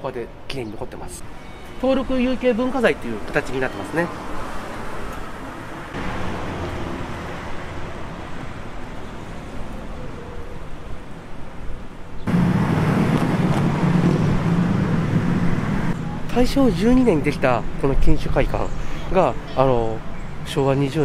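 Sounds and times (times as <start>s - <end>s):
passing cars rumble: 1.2s - 21.0s.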